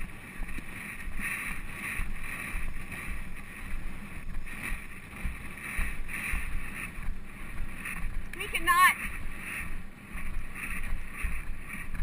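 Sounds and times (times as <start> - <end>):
rhythmic horse stride pulse: 0.0 - 12.0
wind rushing over microphone: 0.0 - 12.0.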